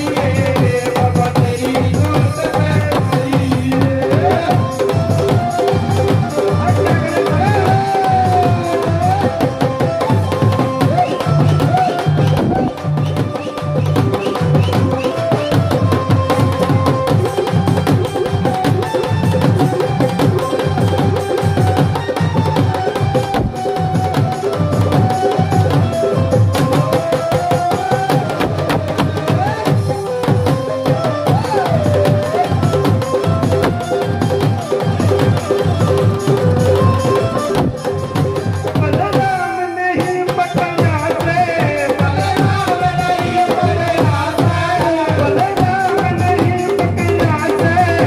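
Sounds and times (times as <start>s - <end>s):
hand drum fast rhythm: 0.0s - 48.0s.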